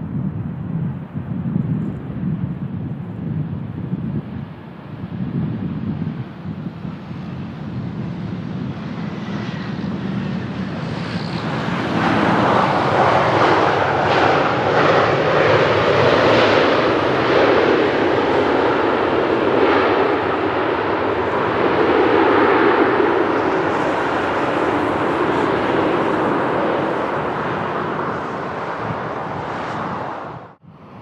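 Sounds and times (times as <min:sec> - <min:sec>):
wind rumble on microphone: 0:00.0 - 0:31.0
jet engines roaring: 0:04.5 - 0:31.0.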